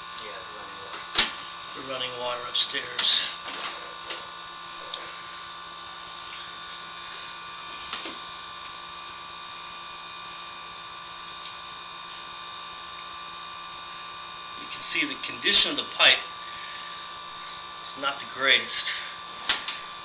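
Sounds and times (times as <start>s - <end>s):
electrical hum and hiss: 0.0s - 20.0s.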